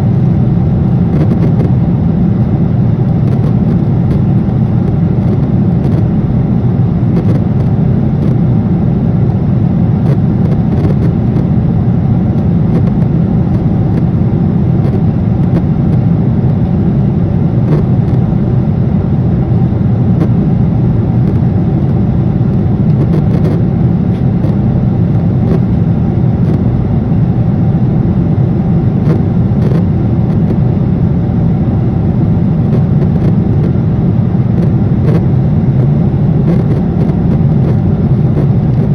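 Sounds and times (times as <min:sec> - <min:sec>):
airliner engines droning: 0:00.0 - 0:38.9.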